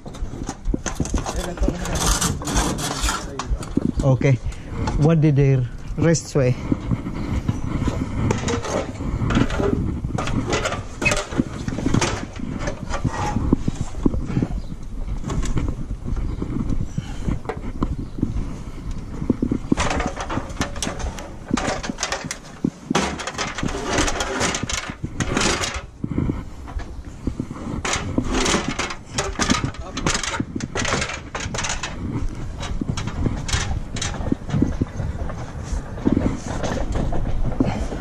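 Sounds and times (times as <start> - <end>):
knocks and clatter against ladder: 0.0 - 5.3, 6.8 - 14.2, 19.3 - 25.9, 26.7 - 38.0
low microphone rumble: 0.0 - 38.0.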